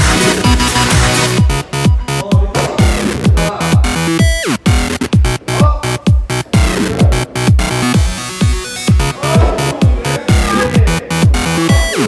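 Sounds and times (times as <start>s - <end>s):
electronic dance music: 0.0s - 12.0s
pounding kick drum: 0.0s - 12.0s
synth lines: 0.0s - 12.0s.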